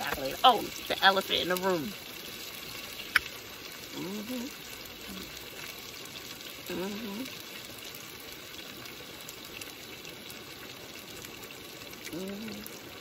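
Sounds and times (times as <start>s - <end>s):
rain pattering on car roof: 0.0s - 13.0s
steak sizzling in a frying pan: 0.0s - 13.0s.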